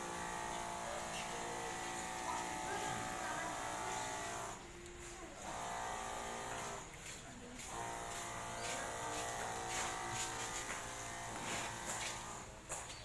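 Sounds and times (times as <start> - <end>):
electric sprayer pump buzzing: 0.0 - 12.8.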